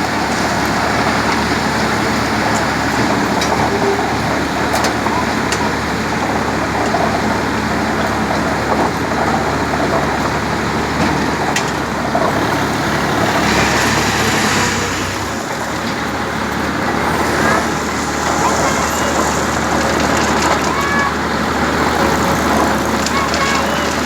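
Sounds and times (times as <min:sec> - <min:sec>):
concrete mixer mechanical rumble: 0:00.0 - 0:24.0
rushing grinding noise: 0:00.0 - 0:24.0
tractor engine running: 0:00.0 - 0:24.0.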